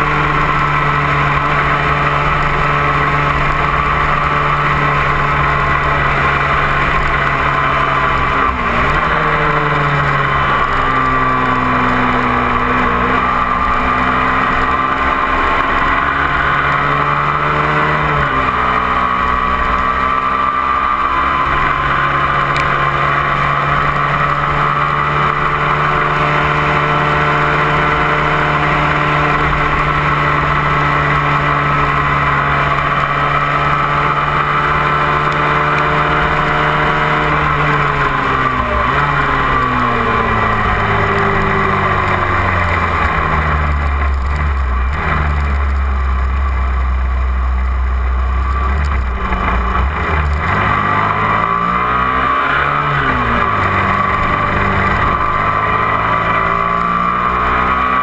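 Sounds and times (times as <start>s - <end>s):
motorcycle engine: 0.0s - 58.0s.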